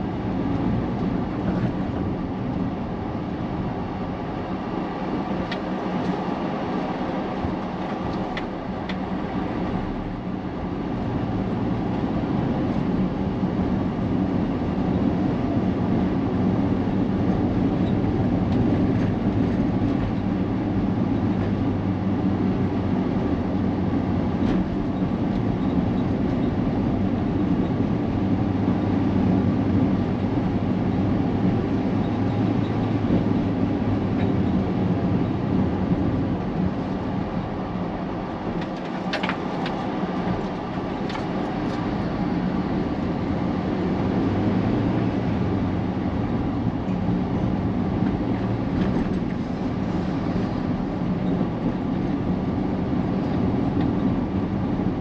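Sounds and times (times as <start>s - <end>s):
vehicle engine and tyre noise: 0.0s - 55.0s.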